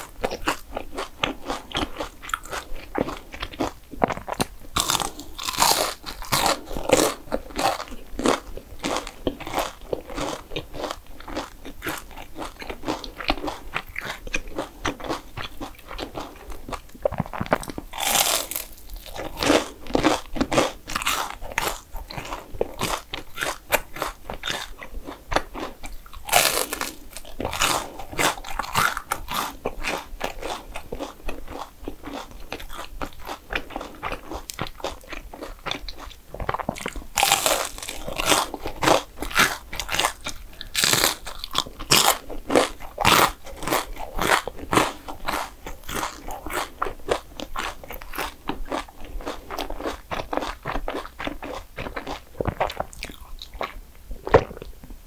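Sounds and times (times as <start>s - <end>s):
crunching: 0.0s - 54.8s
person chewing: 0.0s - 54.9s.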